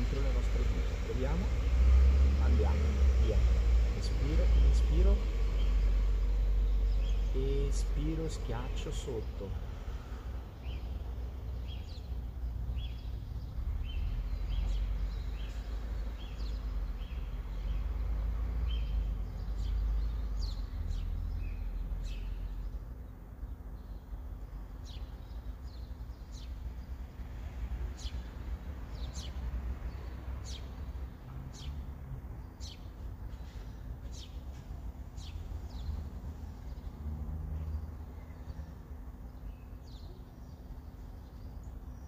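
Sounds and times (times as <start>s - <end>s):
small birds calling: 0.0s - 42.0s.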